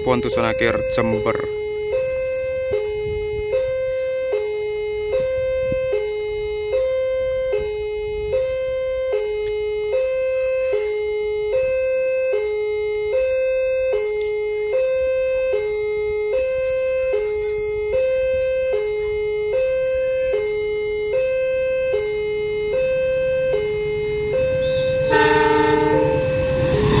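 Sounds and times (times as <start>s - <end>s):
level-crossing two-tone alarm: 0.0s - 27.0s.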